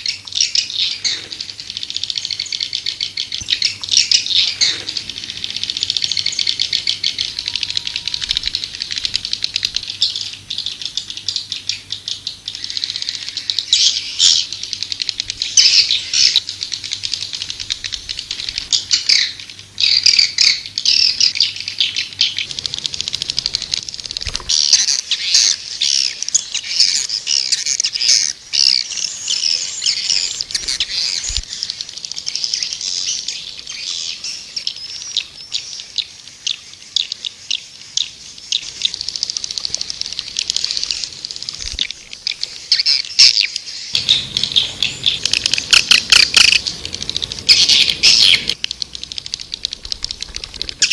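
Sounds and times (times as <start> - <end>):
swiftlets twittering: 0.0 - 35.5, 38.1 - 50.9.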